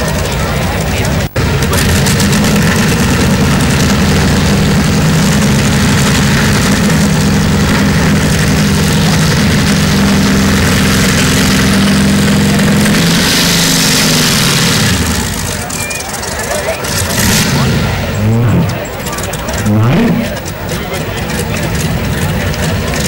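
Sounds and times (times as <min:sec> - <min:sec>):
tractor engine idling loudly: 0:00.0 - 0:23.0.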